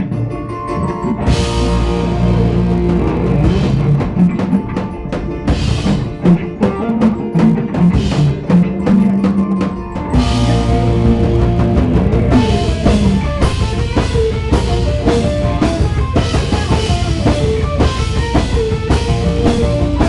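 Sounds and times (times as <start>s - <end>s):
distorted guitars: 0.0s - 20.0s
rock band playing live: 0.0s - 20.0s
bass drum: 1.2s - 20.0s.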